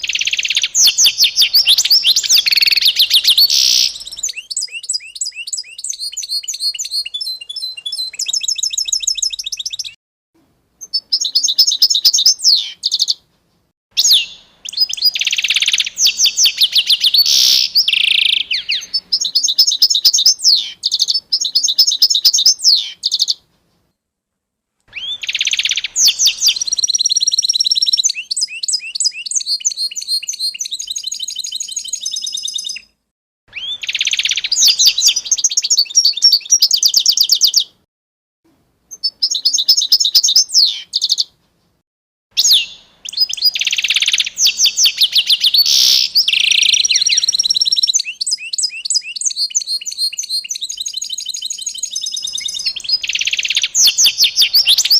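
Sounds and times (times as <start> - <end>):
songbirds trilling and chirping: 0.0 - 10.0, 10.8 - 13.2, 14.0 - 23.4, 24.9 - 32.9, 33.5 - 37.8, 42.4 - 54.9.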